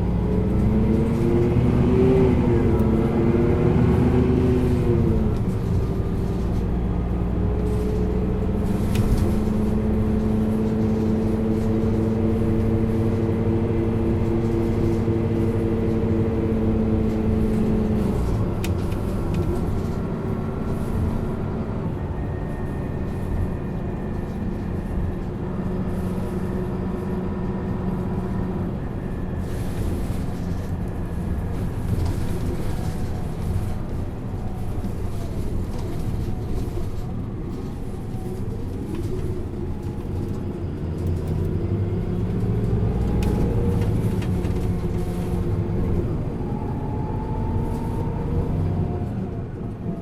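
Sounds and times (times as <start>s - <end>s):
bus diesel engine from inside: 0.0s - 50.0s.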